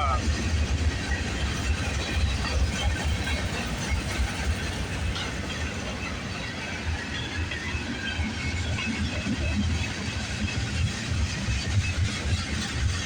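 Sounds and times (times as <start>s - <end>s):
freight train cars rumbling: 0.0s - 13.0s.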